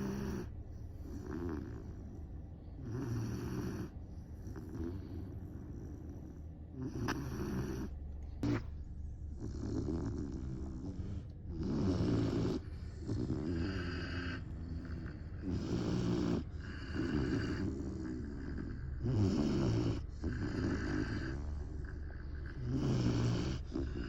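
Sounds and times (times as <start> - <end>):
puppy snoring: 0.0 - 24.0.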